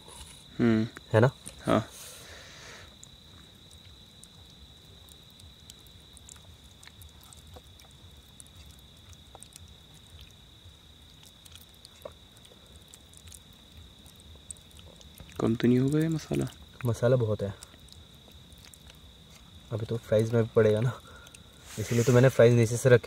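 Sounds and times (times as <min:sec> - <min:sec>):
cricket chirr: 0:00.0 - 0:23.0.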